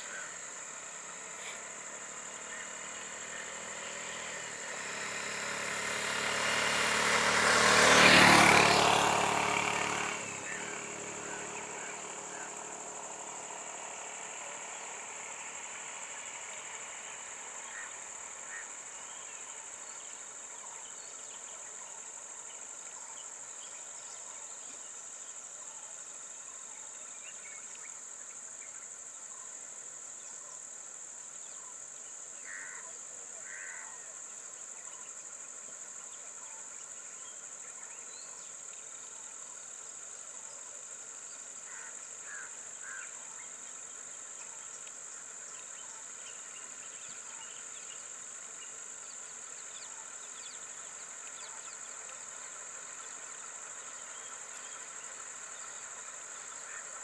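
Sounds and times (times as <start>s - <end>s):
chorus of insects droning: 0.0s - 57.0s.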